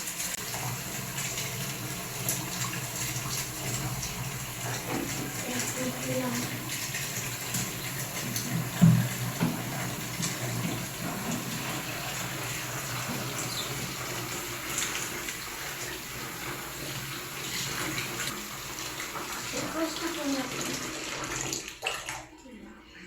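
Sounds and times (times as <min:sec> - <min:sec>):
tap water running into basin: 0:00.0 - 0:22.6.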